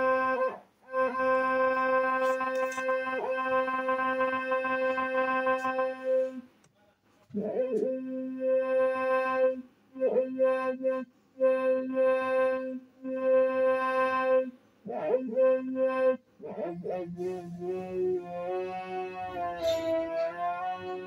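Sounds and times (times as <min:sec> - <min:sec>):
electronic instrument steady note: 0:00.0 - 0:06.4, 0:07.6 - 0:21.0.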